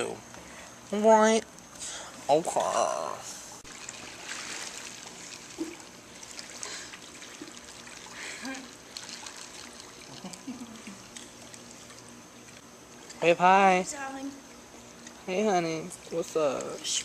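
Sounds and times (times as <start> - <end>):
pool water lapping: 0.4 - 17.0.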